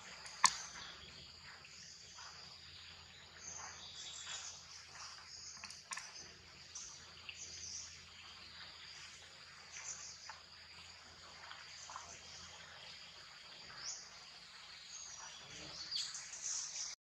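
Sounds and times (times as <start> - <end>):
birds chirping: 0.0 - 17.0
insect drone: 0.0 - 17.0.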